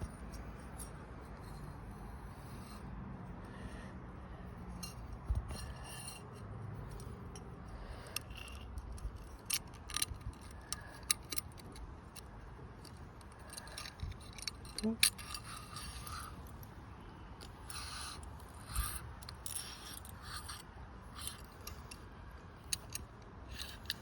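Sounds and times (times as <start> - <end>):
light metallic clicks and scrapes: 0.0 - 24.0.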